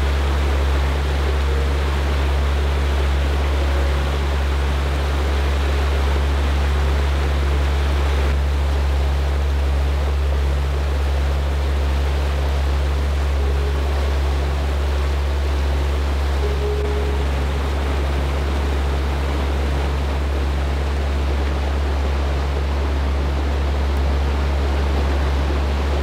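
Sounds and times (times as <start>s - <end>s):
rushing mountain stream: 0.0s - 26.0s.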